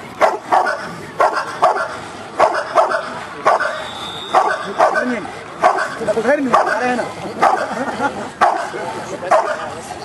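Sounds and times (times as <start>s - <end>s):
dog barking: 0.2s - 7.7s, 8.4s - 9.7s.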